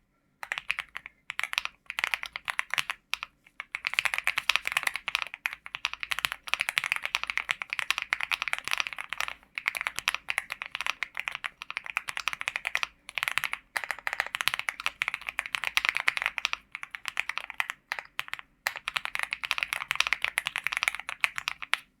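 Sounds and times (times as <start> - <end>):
mechanical keyboard typing: 0.4 - 21.9.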